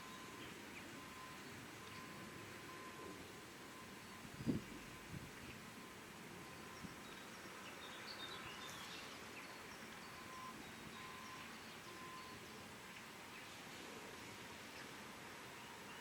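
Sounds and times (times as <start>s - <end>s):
faint bird chirps: 0.0s - 3.0s, 3.7s - 13.6s, 14.2s - 16.0s
steady background hiss: 0.0s - 16.0s.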